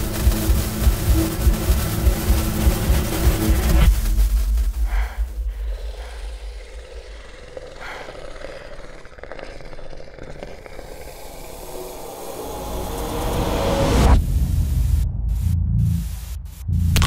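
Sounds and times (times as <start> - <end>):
low roar-like rumble: 0.0 - 17.0.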